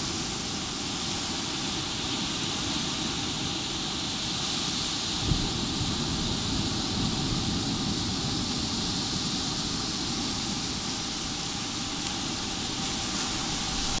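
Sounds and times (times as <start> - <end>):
ocean waves washing onto beach: 0.0 - 14.0
wind rumbling on microphone: 0.0 - 14.0.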